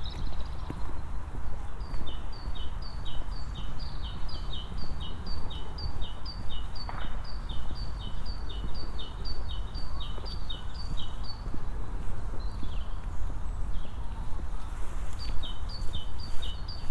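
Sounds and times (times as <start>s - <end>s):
footsteps on a path: 0.0s - 16.9s.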